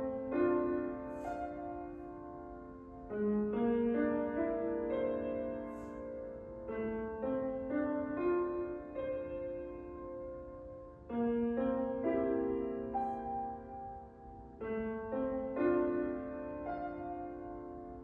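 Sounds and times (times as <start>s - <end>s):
slow simple piano melody: 0.0s - 18.0s.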